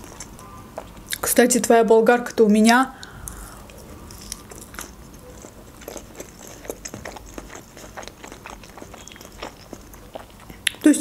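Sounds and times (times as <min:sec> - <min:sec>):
person chewing food: 0:00.0 - 0:01.2, 0:03.0 - 0:10.8.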